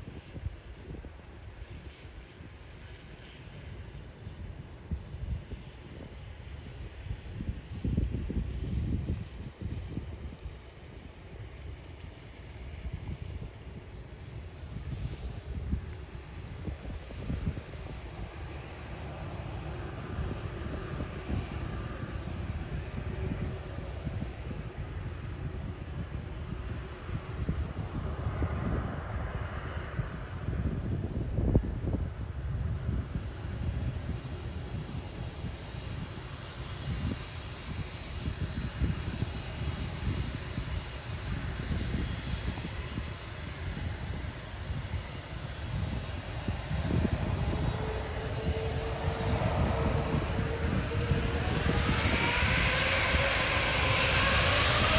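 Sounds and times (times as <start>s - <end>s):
jet engines at high power: 0.0s - 54.9s
wind gusting on microphone: 0.0s - 54.9s.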